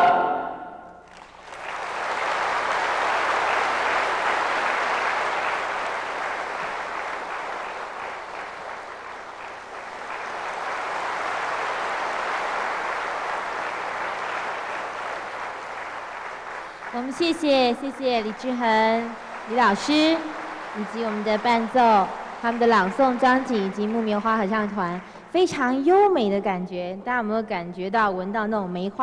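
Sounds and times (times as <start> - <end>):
audience applauding: 1.0 - 25.3.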